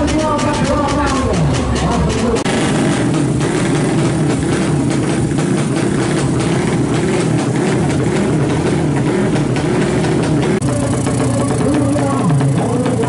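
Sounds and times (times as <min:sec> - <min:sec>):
motorbike engine idling roughly: 0:00.0 - 0:13.0.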